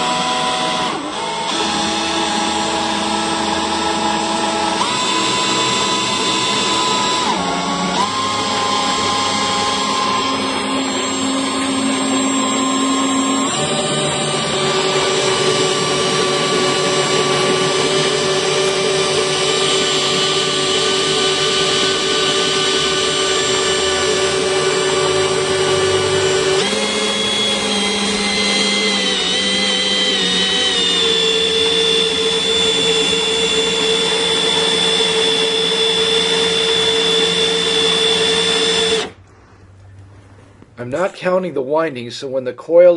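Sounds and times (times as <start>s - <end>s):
power drill running: 0.0s - 39.2s.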